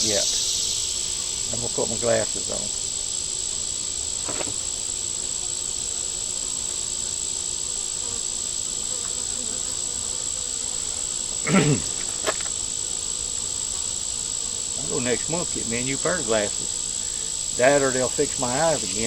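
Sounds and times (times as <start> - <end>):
high-pitched insect drone: 0.0 - 19.0
honey bees humming: 0.0 - 19.0.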